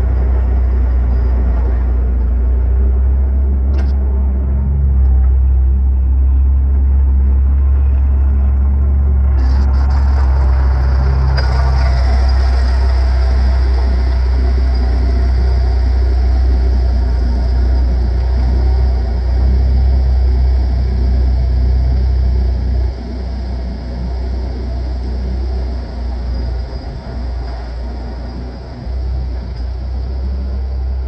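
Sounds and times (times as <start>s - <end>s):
diesel engine deep hum: 0.0s - 31.0s
gravel crunching and rattling: 0.0s - 31.0s.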